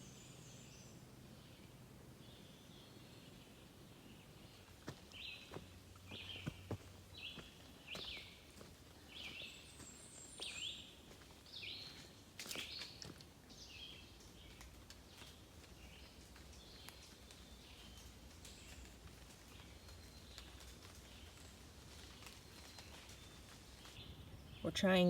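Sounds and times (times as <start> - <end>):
bird singing: 0.0 - 25.0
faint woodland background noise: 0.0 - 25.0.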